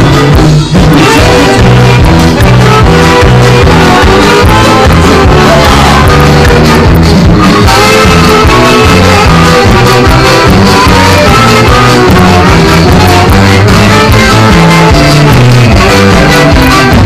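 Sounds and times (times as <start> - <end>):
electric guitar: 0.0 - 17.0
live band music: 0.0 - 17.0
saxophones playing melody: 0.0 - 17.0.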